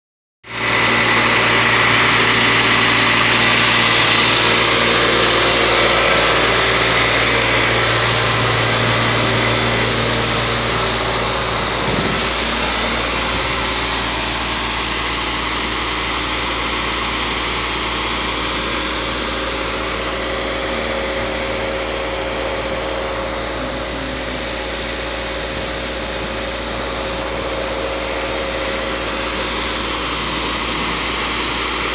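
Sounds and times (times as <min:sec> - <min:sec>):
diesel engine running: 0:00.4 - 0:31.9
vacuum pump hum: 0:00.5 - 0:31.9.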